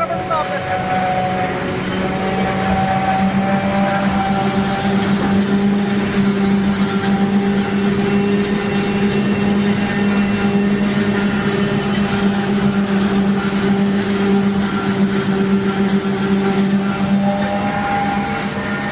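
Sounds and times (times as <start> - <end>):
harvester droning: 0.0 - 18.9.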